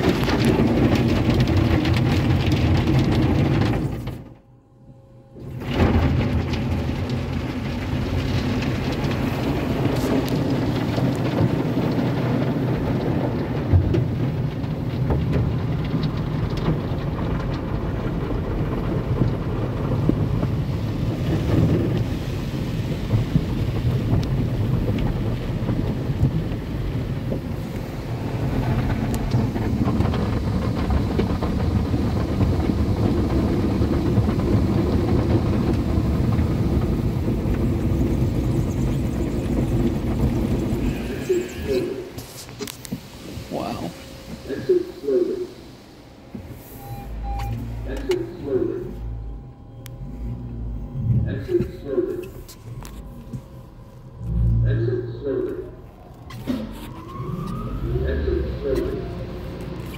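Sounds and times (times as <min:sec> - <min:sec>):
car wash dryer blowers: 0:00.0 - 0:59.9.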